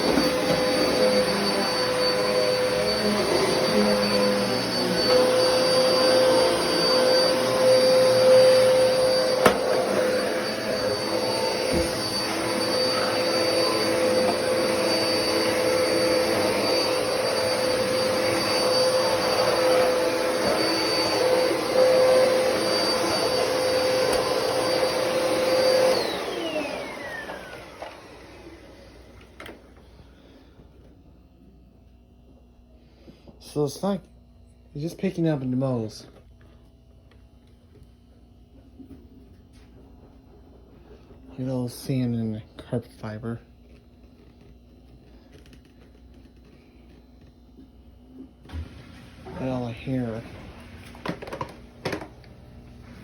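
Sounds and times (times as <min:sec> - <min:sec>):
vacuum cleaner motor whine: 0:00.0 - 0:31.0, 0:38.6 - 0:53.0.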